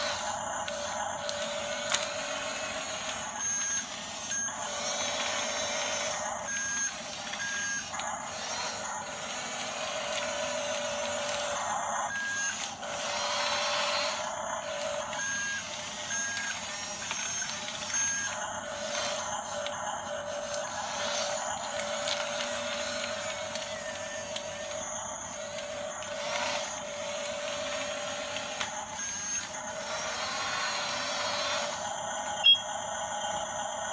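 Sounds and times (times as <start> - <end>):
thin electronic tones: 0.0 - 31.8
electric motors whirring and grinding: 0.0 - 33.9.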